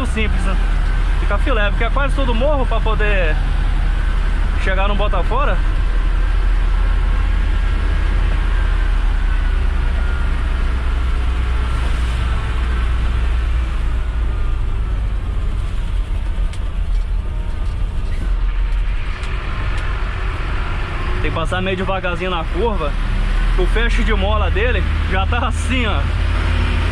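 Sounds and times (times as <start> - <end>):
diesel truck engine under load: 0.0 - 26.9.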